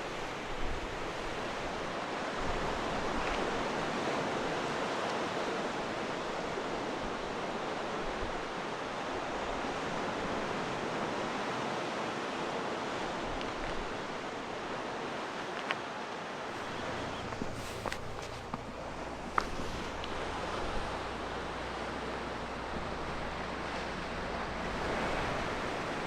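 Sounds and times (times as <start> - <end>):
sea surf washing against coast: 0.0 - 26.0.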